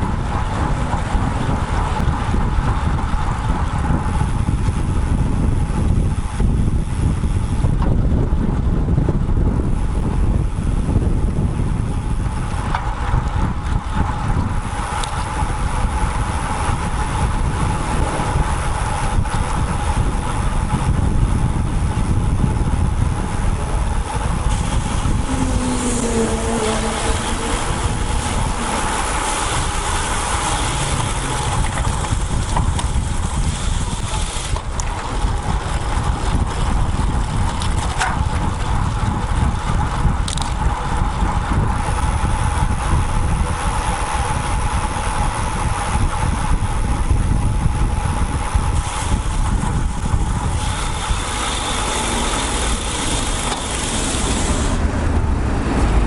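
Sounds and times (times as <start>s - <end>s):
road noise: 0.0s - 56.0s
wind rumbling on microphone: 0.0s - 56.0s.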